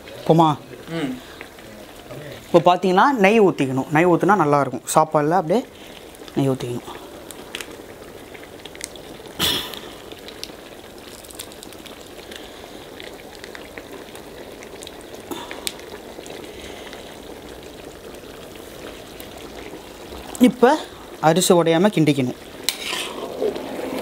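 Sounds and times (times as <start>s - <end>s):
pot boiling with bubbling: 0.0s - 24.0s.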